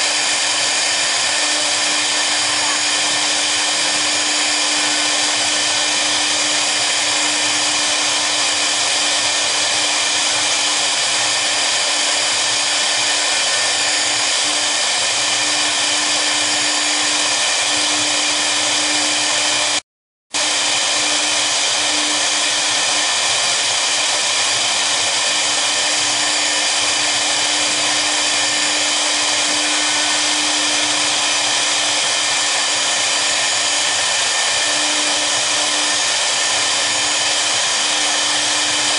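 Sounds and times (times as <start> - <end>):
cnc router whining while engraving: 0.0 - 38.9.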